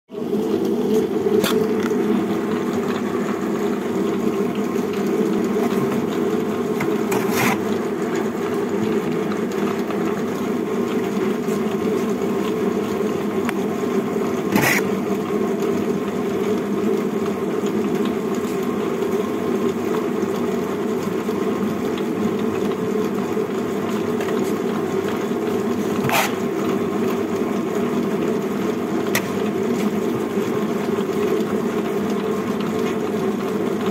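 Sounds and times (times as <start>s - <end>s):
machine mechanical hum: 0.1s - 33.9s.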